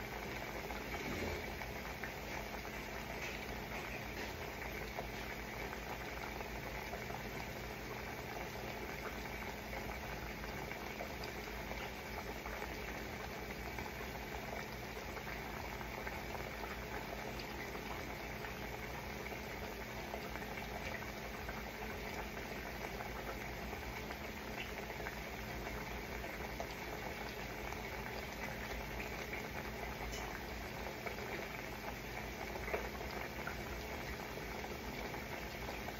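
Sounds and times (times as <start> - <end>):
faint steady hum: 0.0 - 35.9
pot of food boiling: 0.0 - 35.9.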